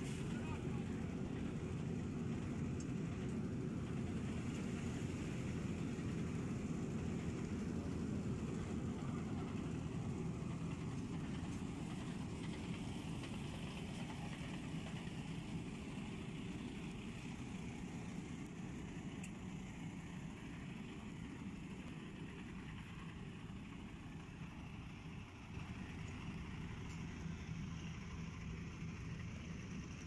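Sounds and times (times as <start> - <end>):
diesel engines idling: 0.0 - 30.0.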